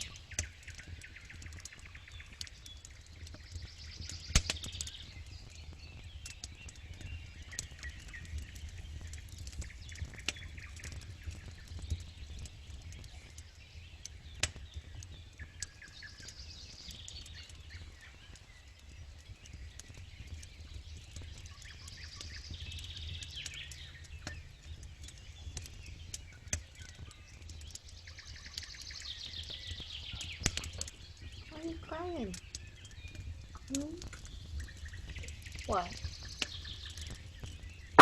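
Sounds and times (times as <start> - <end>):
birds singing: 0.0 - 38.0
campfire crackling and popping: 0.0 - 38.0.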